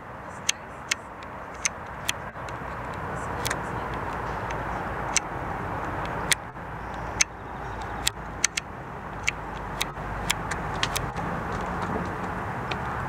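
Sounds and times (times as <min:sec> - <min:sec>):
distant traffic hum: 0:00.0 - 0:13.0
sharp clicks: 0:00.4 - 0:13.0.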